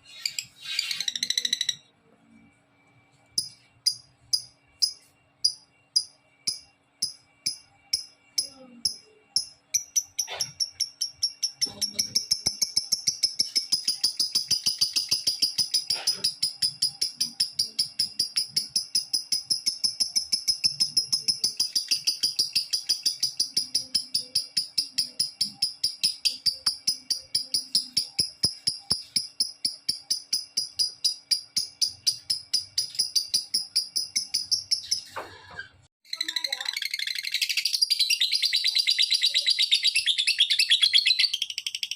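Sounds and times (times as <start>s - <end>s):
lovebird chattering song: 0.0s - 1.9s, 8.9s - 35.2s, 36.1s - 41.9s.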